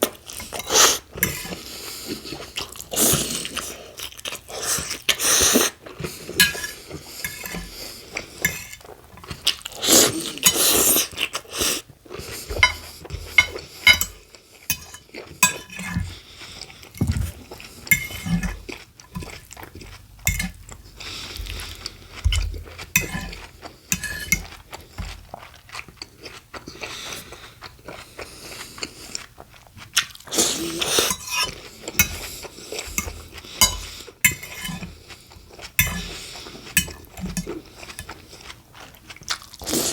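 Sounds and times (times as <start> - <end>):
sandwich chewing and crunching: 0.0 - 15.4, 16.0 - 34.2, 34.8 - 39.9.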